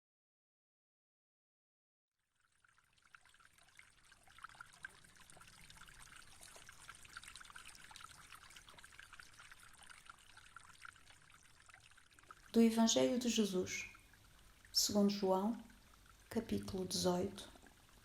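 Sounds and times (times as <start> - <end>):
faint trickling water: 2.2 - 18.0.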